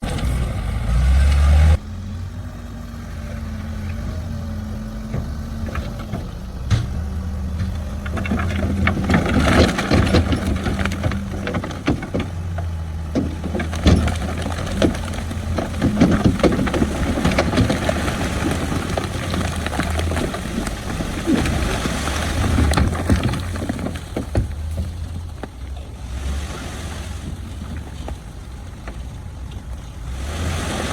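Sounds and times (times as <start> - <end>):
bulldozer diesel engine rumbling: 0.0 - 30.9
rock clanking and scraping: 3.7 - 30.9.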